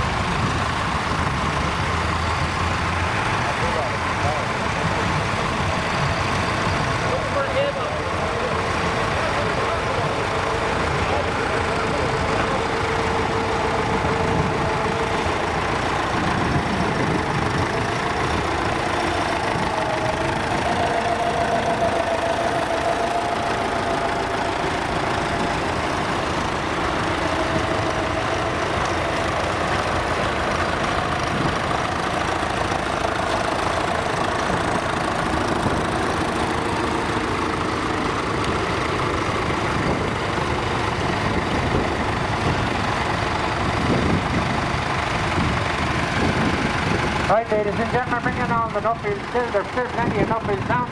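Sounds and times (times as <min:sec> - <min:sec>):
tractor engines running: 0:00.0 - 0:50.9.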